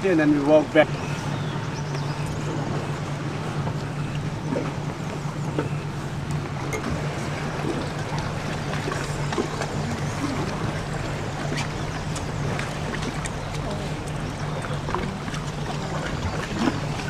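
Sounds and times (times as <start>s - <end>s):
boat engine humming: 0.0s - 17.0s
water wash: 0.0s - 17.0s.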